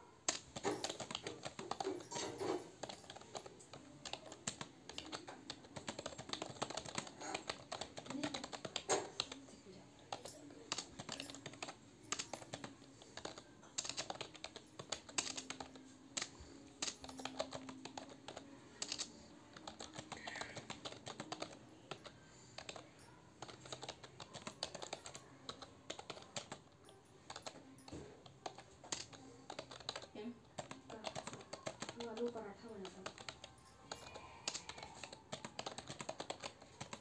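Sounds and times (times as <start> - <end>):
computer keyboard typing: 0.2 - 37.0.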